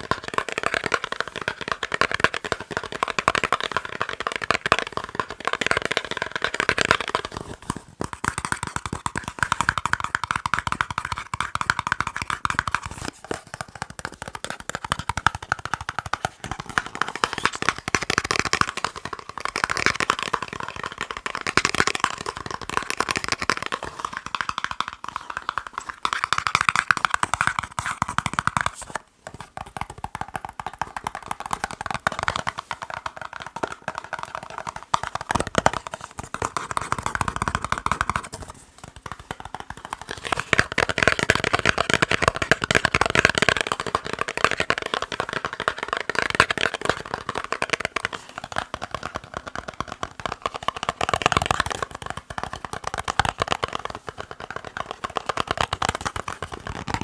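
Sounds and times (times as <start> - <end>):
finger tapping on boxes: 0.0 - 57.0.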